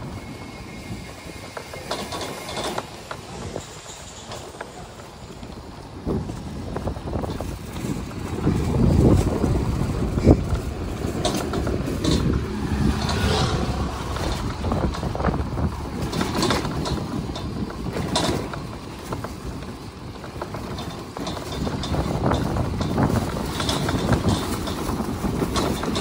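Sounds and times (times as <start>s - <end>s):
scooter engine rumble: 0.0s - 26.0s
wind on microphone: 0.0s - 26.0s
knocks and rattles: 1.7s - 26.0s.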